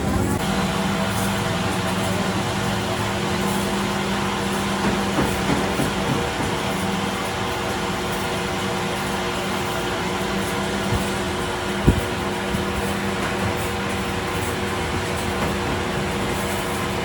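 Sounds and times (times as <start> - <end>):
workshop machine humming: 0.0 - 17.0.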